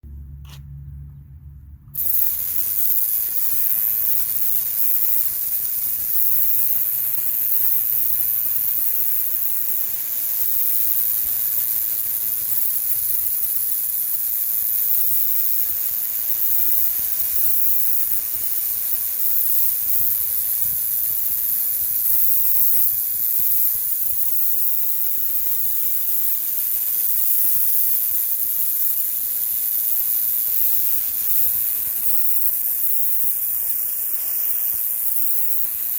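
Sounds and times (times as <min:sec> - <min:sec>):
pressure washer spraying: 0:02.0 - 0:35.9.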